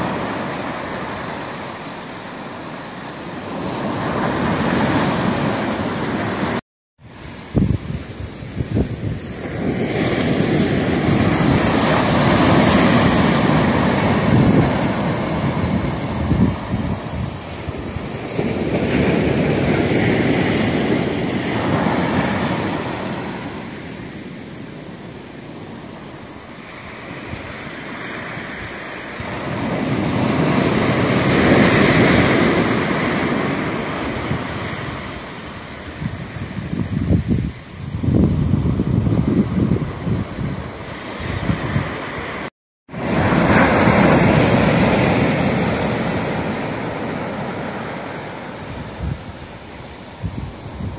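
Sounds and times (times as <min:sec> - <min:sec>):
surf breaking on beach: 0:00.0 - 0:50.9.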